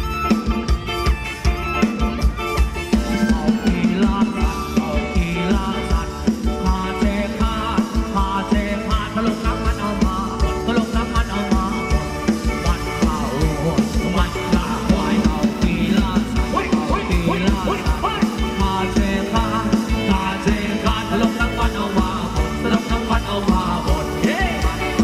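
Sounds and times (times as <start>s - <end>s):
drum kit beat: 0.0s - 25.0s
live band playing dance music: 0.0s - 25.0s.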